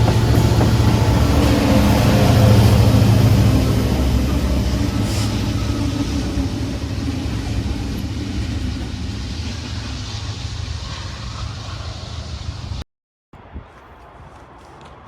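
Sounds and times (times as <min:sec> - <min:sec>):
locomotive engine drone: 0:00.0 - 0:12.8.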